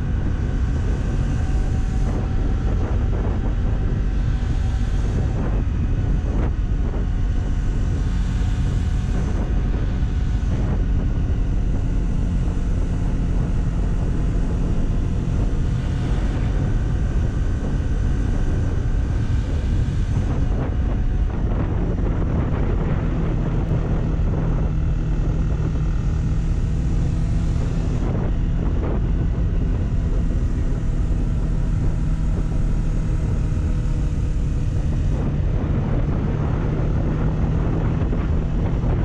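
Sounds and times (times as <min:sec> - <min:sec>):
motorcycle engine running: 0:00.0 - 0:39.0
wind rushing over microphone: 0:00.0 - 0:39.0.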